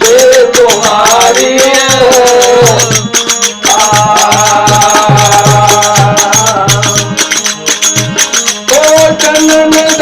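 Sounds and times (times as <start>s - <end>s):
drum beats: 0.0s - 10.0s
held melody line: 0.0s - 10.0s
jingling shaken percussion: 0.0s - 10.0s.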